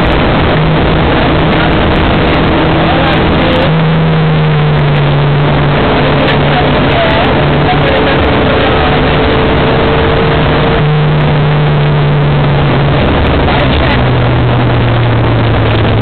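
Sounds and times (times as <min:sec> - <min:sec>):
rally car engine at full throttle: 0:00.0 - 0:16.0
road and cabin noise: 0:00.0 - 0:16.0.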